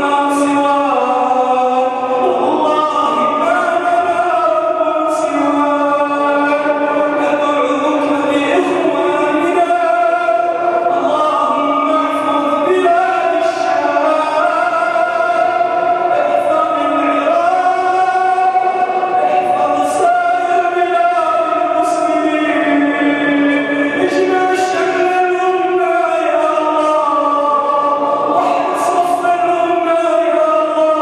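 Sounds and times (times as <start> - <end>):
man chanting into a microphone: 0.0 - 31.0.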